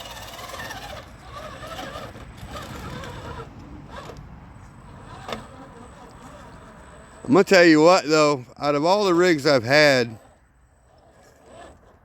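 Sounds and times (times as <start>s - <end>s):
rc car motor whining: 0.0s - 7.8s, 9.0s - 12.0s.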